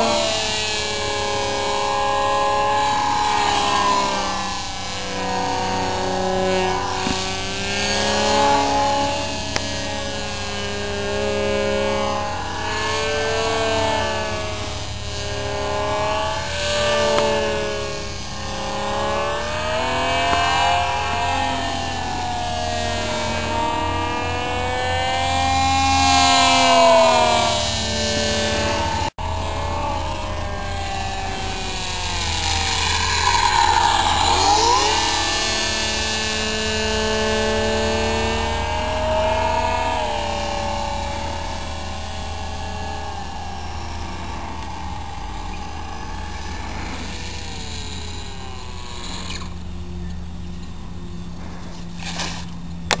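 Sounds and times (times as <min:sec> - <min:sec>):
electric motor propeller whining: 0:00.0 - 0:53.0.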